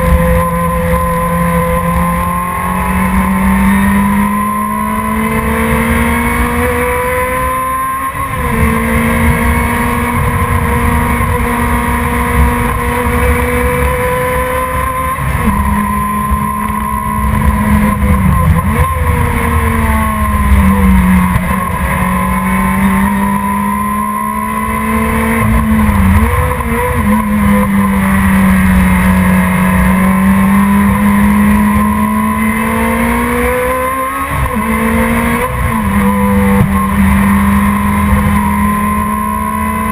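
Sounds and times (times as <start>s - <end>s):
sports car engine at high revs: 0.0s - 39.9s.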